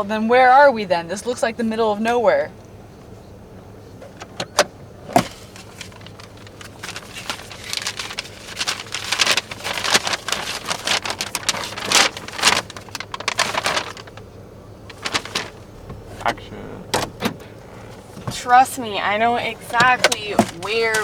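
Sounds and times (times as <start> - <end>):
crackling handling noise: 2.6 - 21.0.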